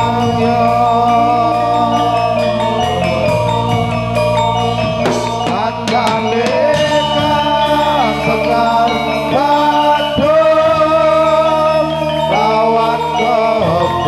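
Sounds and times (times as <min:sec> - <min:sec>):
metal-keyed percussion: 0:00.0 - 0:14.0
person singing long notes: 0:00.0 - 0:14.0.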